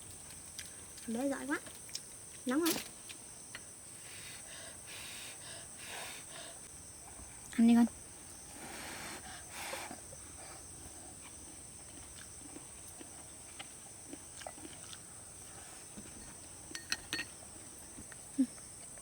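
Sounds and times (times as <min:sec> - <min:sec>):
insect drone: 0:00.0 - 0:19.0.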